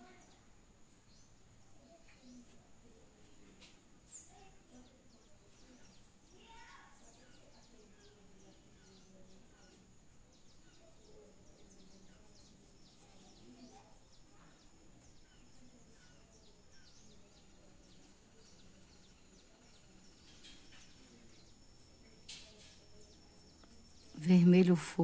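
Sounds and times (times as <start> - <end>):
faint bird chirps: 0.0 - 25.0.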